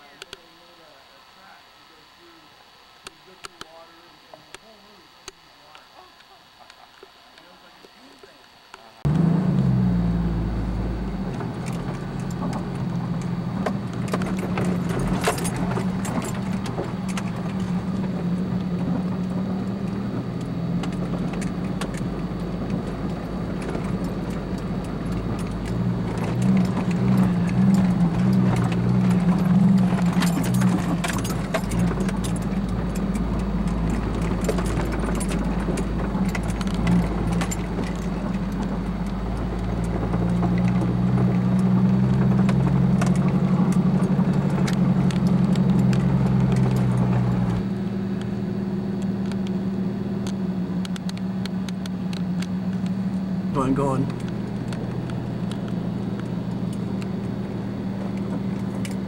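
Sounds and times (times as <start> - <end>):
car engine running: 7.4 - 59.0
vehicle body and gear rattling: 9.0 - 59.0.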